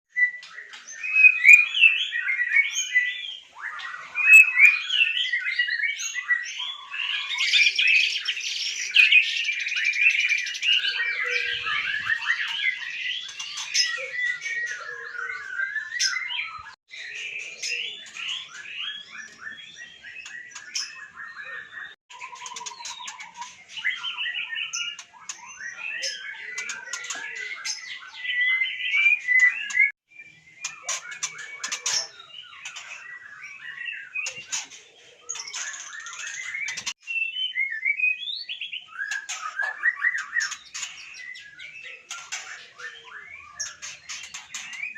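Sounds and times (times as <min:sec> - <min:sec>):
songbird singing varied song: 0:00.1 - 0:44.9.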